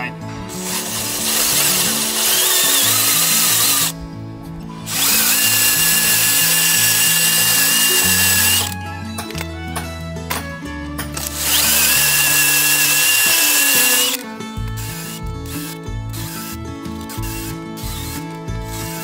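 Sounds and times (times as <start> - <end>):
background music: 0.0 - 19.0
cordless drill cutting wood: 0.5 - 4.0, 4.8 - 9.5, 11.1 - 19.0.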